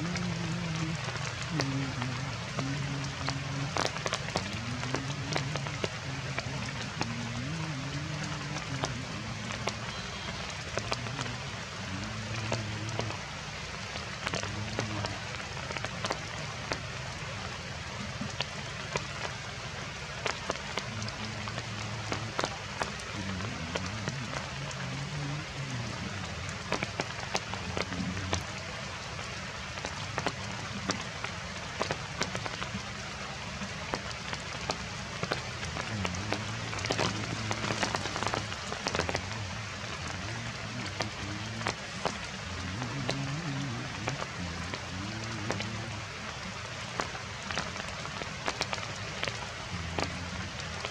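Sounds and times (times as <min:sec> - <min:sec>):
heavy rain hissing: 0:00.0 - 0:50.9
raindrops ticking on surfaces: 0:00.0 - 0:50.9.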